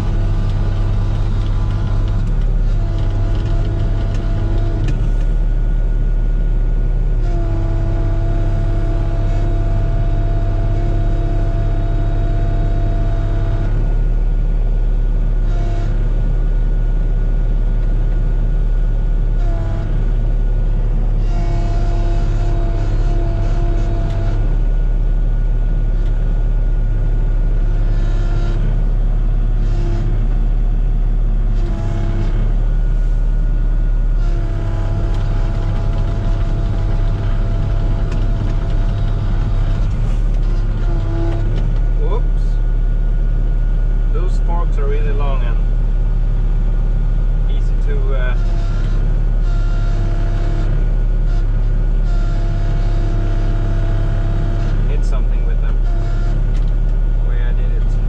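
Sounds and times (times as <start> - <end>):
excavator diesel engine running: 0.0 - 58.0
hydraulic whine: 0.0 - 58.0.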